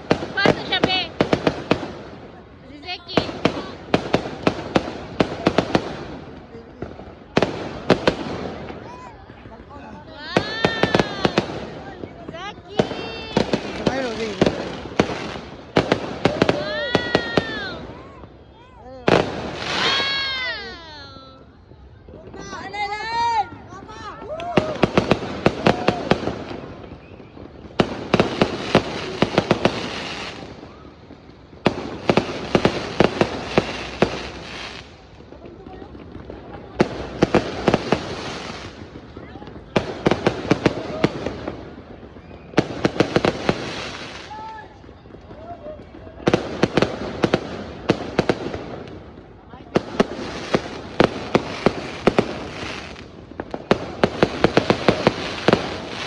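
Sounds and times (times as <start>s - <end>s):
fireworks and firecrackers cracking: 0.0s - 56.0s.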